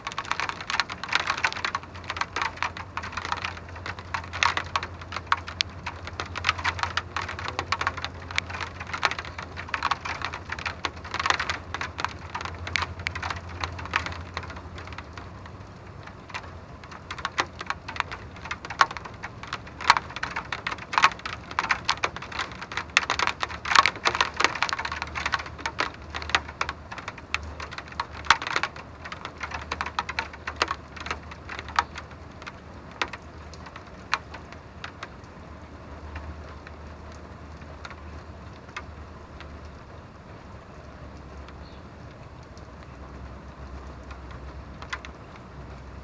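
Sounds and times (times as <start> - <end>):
low steady hum: 0.0 - 46.0
raindrops tapping hard surface: 0.0 - 46.0.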